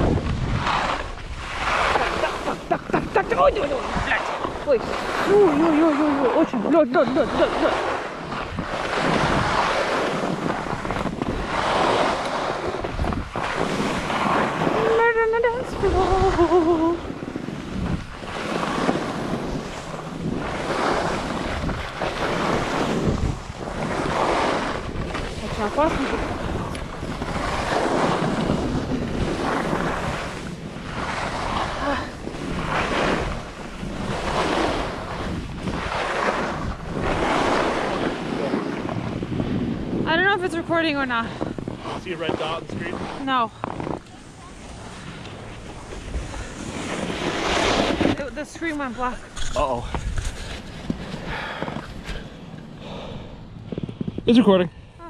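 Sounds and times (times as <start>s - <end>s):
wind buffeting microphone: 0.0s - 55.0s
skis scraping icy snow: 0.4s - 15.0s, 18.2s - 26.4s, 27.3s - 39.6s, 41.8s - 52.0s.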